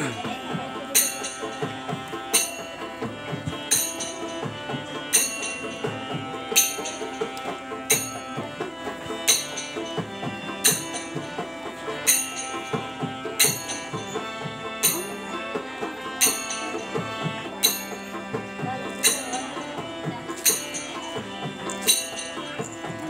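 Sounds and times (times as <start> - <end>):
hand drum: 0.0 - 23.0
harmonium chords: 0.0 - 23.0.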